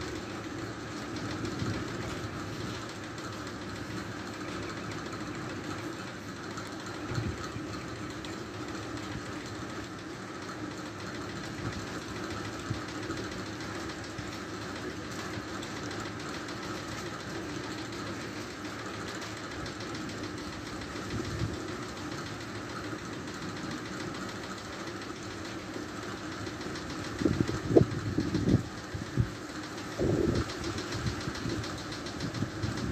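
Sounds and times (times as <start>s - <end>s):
engine-like droning hum: 0.0s - 32.9s.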